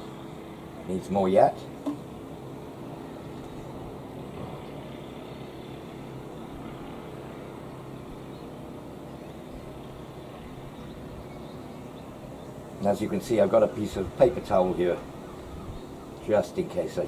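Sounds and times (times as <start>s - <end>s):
steady background rumble: 0.0s - 17.0s.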